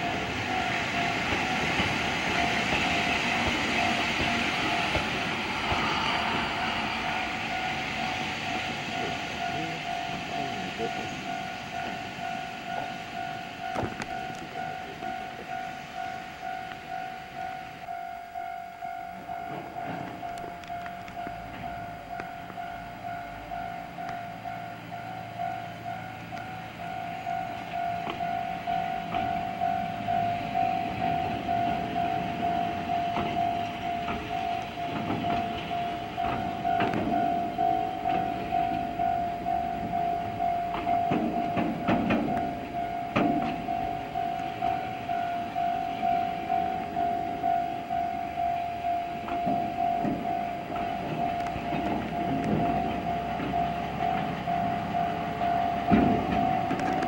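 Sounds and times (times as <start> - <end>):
freight train rumbling past: 0.0 - 57.0
level crossing bell ringing: 7.2 - 57.0.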